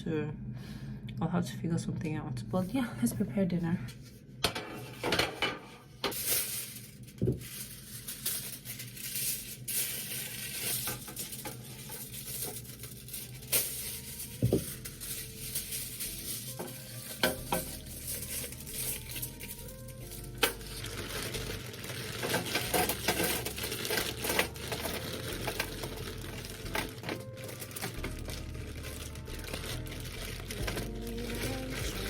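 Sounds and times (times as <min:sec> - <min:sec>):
rustling and scraping of utensils: 0:03.9 - 0:32.0.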